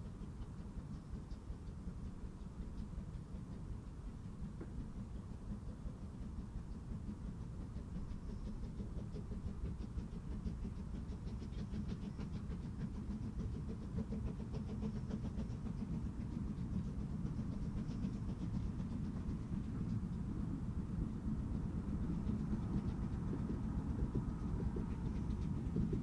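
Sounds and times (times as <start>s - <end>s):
distant steam train rumbling: 0.0s - 26.0s
rapid rattle of train clicks: 0.0s - 26.0s.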